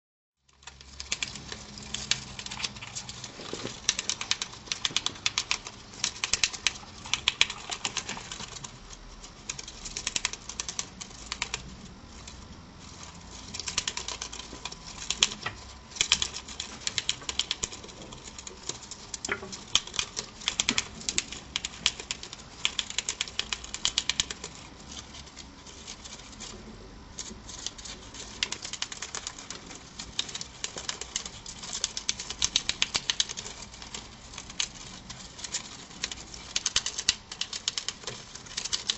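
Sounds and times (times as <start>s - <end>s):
gerbil gnawing paper: 0.5s - 38.9s.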